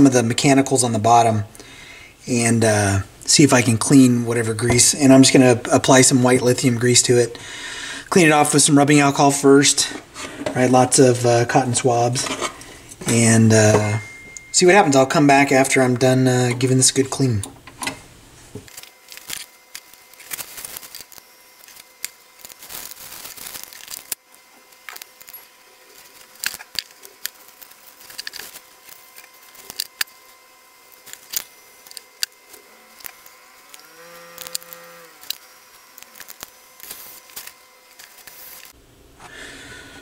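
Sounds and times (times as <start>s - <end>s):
faint steady whine: 0.0s - 40.0s.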